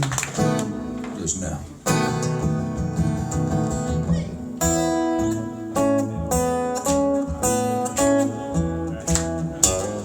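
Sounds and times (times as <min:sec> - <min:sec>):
guitar strumming chords: 0:01.8 - 0:10.0.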